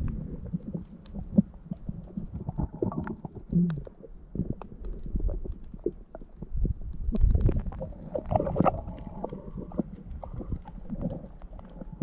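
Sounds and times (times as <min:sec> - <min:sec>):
underwater rumble of moving water: 0:00.0 - 0:12.0.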